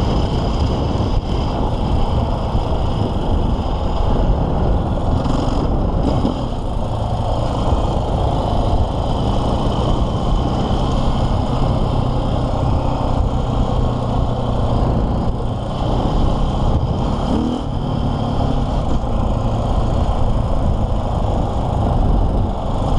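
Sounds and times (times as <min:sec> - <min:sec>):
motorcycle engine running steadily: 0:00.0 - 0:22.9.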